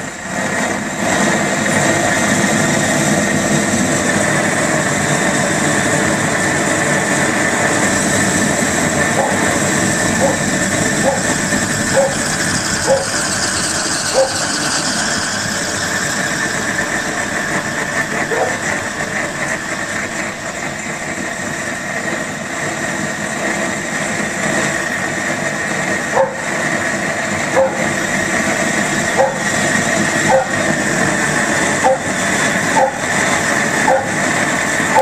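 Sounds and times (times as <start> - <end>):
torch flame rushing: 0.0 - 35.0.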